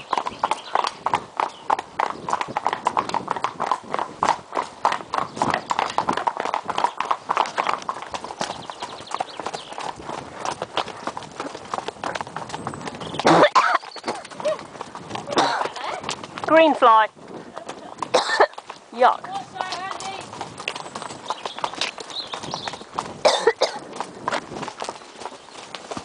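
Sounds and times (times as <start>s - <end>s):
horse hooves clopping on pavement: 0.0s - 26.0s.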